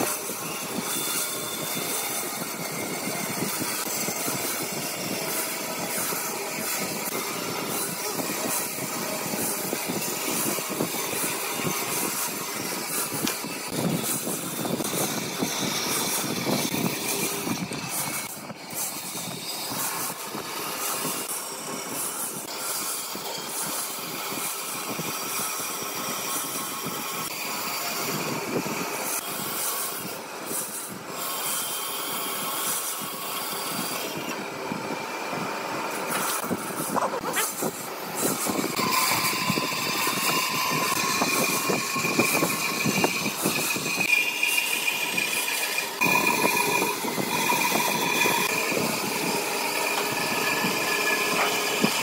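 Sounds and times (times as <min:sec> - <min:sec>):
bandsaw cutting timber: 0:00.0 - 0:52.0.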